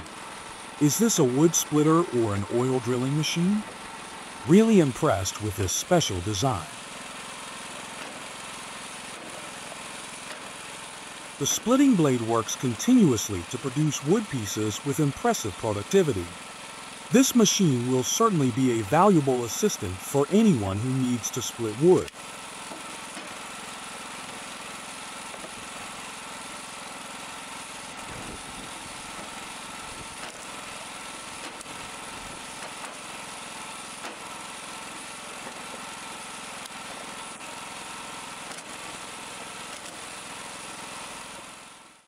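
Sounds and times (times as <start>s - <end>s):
small petrol engine running: 0.0s - 42.0s.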